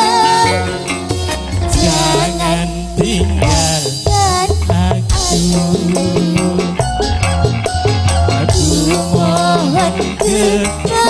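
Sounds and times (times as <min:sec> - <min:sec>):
bending lead melody: 0:00.0 - 0:11.0
hand drums: 0:00.0 - 0:11.0
steady bass line: 0:00.0 - 0:11.0.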